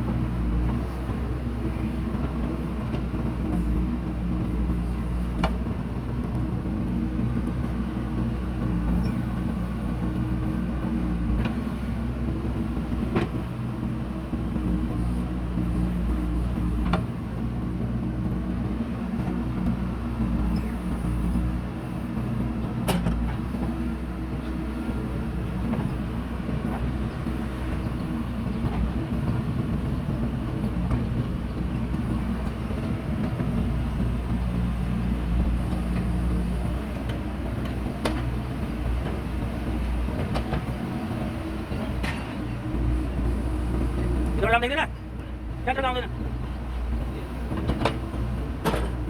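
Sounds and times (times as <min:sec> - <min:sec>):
heavy machinery diesel engine: 0:00.0 - 0:49.0.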